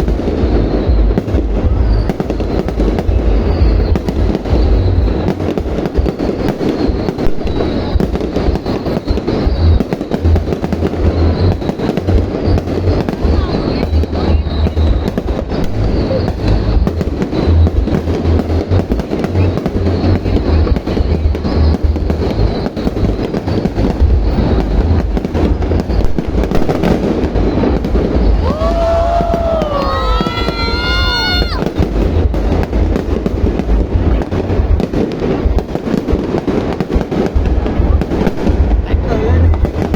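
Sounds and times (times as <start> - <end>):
deep rolling booms: 0.0 - 39.9
rapid firework bangs: 0.0 - 39.9.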